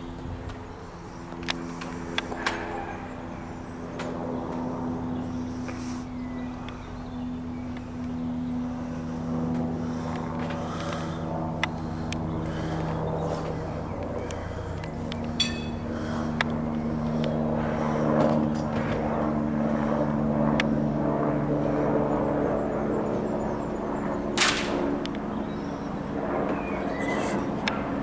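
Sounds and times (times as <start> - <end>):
helicopter flying past: 0.0 - 28.0.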